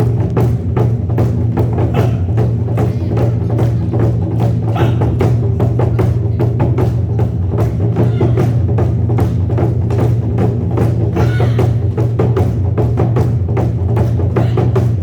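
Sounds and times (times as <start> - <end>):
drums struck in steady rhythm: 0.0 - 15.0.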